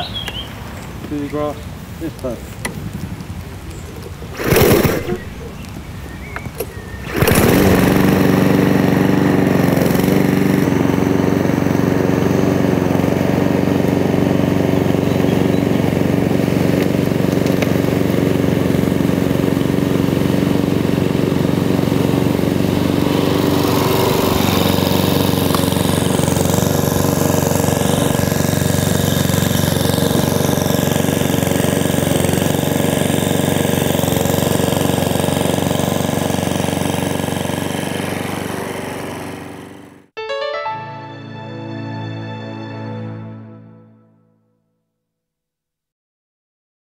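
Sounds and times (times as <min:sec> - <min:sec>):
lawn mower engine running: 0:00.0 - 0:43.1.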